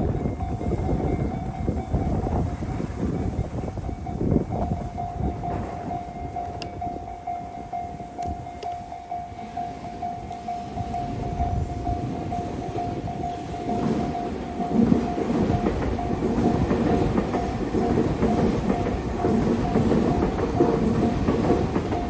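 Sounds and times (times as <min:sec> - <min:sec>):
electronic crossing bell ringing: 0:00.0 - 0:22.0
low rumble of rail traffic: 0:00.0 - 0:22.0.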